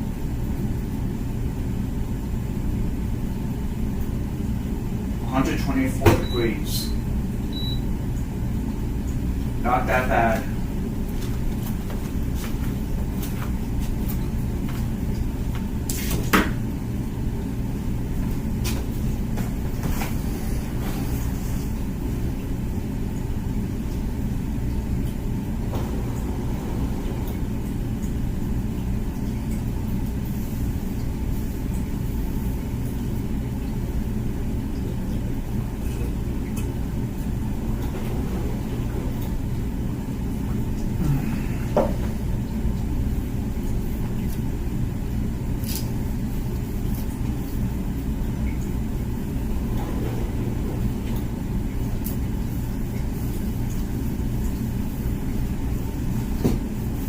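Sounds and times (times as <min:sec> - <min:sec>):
dishwasher running: 0:00.0 - 0:57.0.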